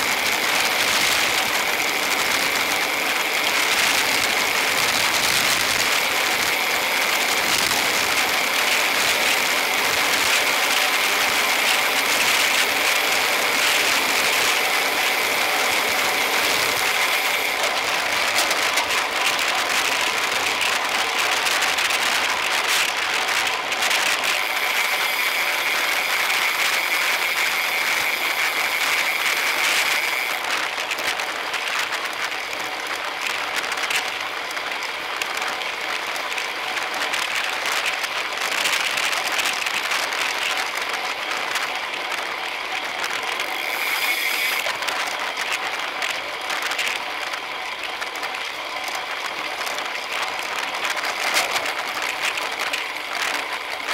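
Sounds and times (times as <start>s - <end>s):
bicycle tyre and wind noise: 0.0s - 53.9s
freewheel hubs ratcheting: 0.0s - 53.9s.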